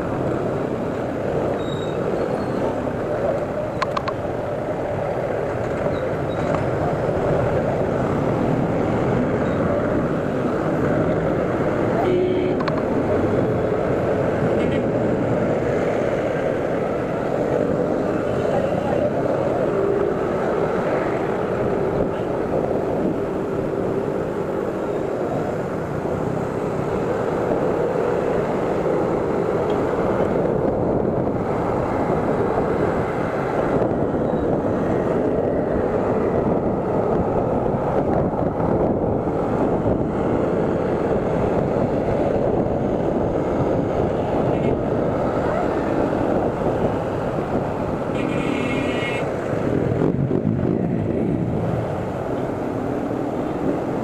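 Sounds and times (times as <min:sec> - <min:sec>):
motorcycles and traffic running: 0:00.0 - 0:54.0
wind rush on microphone: 0:00.0 - 0:54.0.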